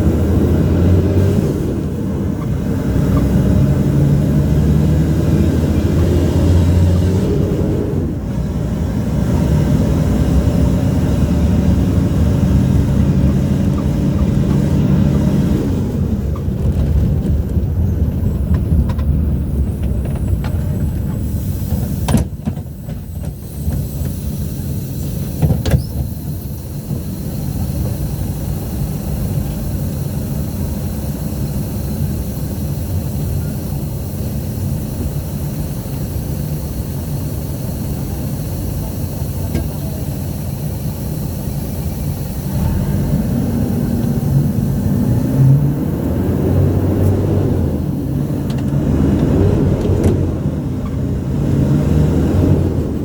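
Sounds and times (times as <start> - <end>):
bus engine running: 0.0 - 53.0.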